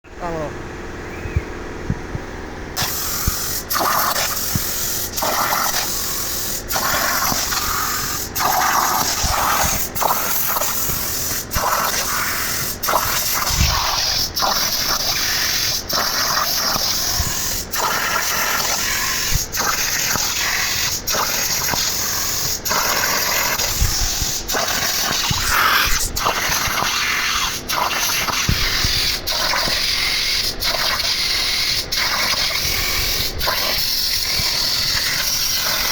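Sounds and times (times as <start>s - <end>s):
plasma torch cutting metal: 2.8s - 35.9s.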